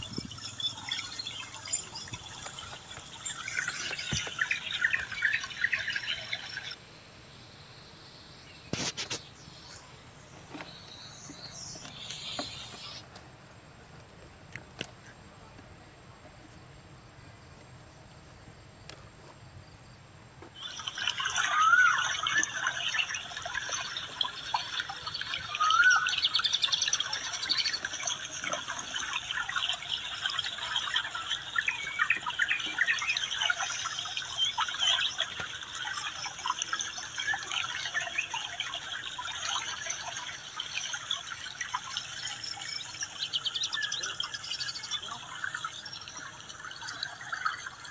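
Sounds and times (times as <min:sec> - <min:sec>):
birds chirping: 0:00.0 - 0:06.8, 0:08.5 - 0:13.0, 0:20.5 - 0:47.9.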